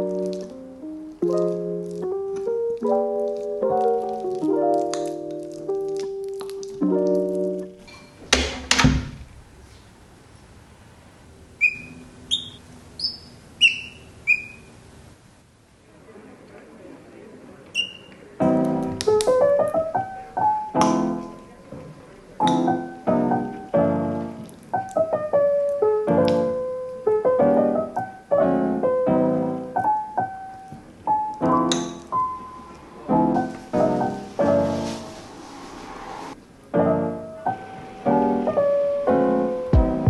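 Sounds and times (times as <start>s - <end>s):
solo piano piece: 0.0s - 12.7s, 18.3s - 40.0s.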